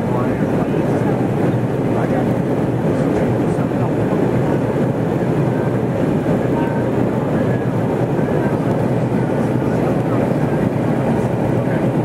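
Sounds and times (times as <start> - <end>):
airliner engines in cabin: 0.0 - 12.0.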